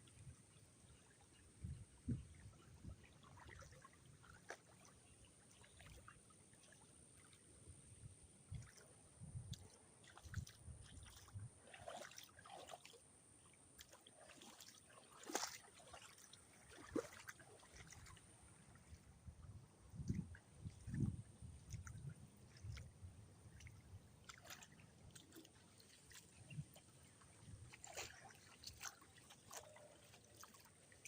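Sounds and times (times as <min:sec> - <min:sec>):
floodwater sloshing and splashing: 0:00.0 - 0:31.0.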